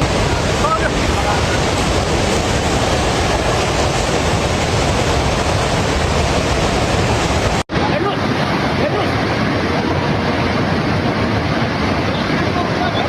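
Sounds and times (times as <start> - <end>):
flooded river roaring: 0.0 - 13.0.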